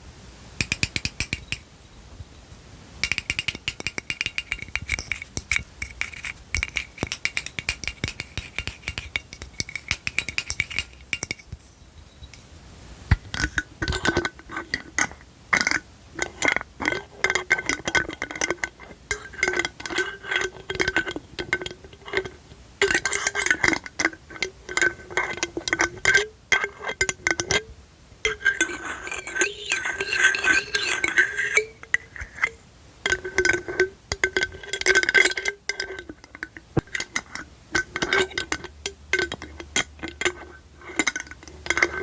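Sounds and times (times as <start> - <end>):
fingernails tapping glass bottle: 0.6 - 1.7, 3.0 - 12.5, 13.1 - 42.0.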